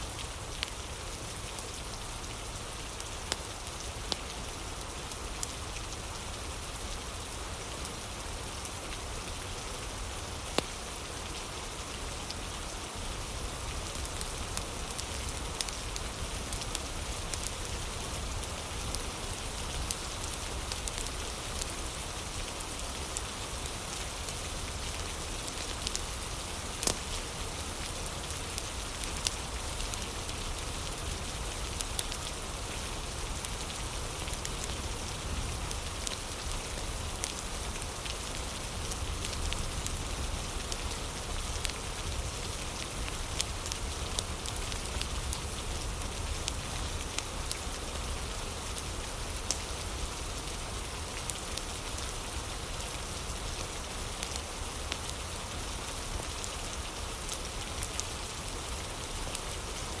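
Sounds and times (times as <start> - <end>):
crackling fire: 0.0 - 60.0
steady rain: 0.0 - 60.0.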